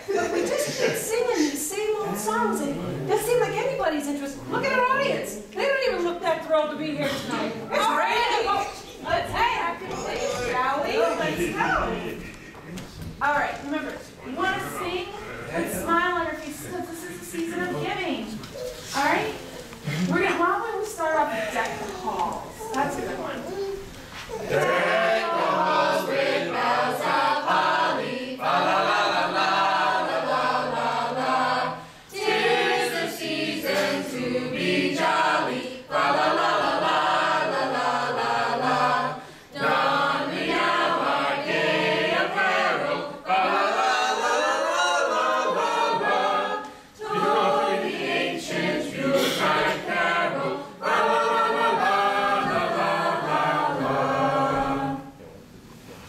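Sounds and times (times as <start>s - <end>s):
group singing unaccompanied: 7.1s - 55.4s.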